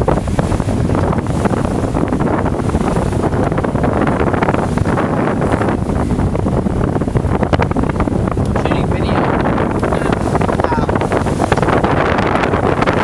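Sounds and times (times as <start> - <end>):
water rushing around hull: 0.0 - 13.0
wind buffeting microphone: 0.0 - 13.0.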